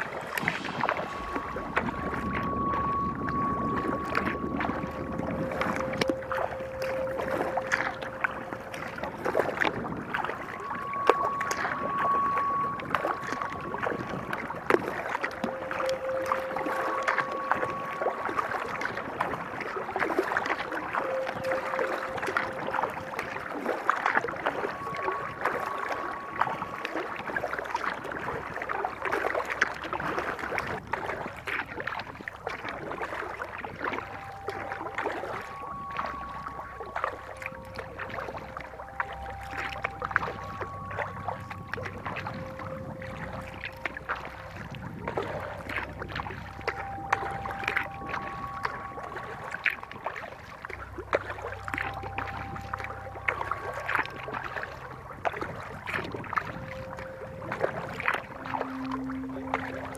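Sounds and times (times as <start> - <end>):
faint background music: 0.0 - 59.9
paddle strokes splashing water: 0.0 - 59.9.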